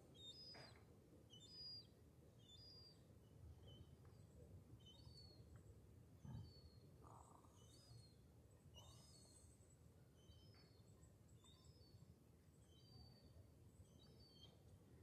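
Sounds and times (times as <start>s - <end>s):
faint high bird chirps: 0.1s - 4.2s, 4.8s - 5.4s, 6.2s - 9.6s, 10.2s - 14.8s.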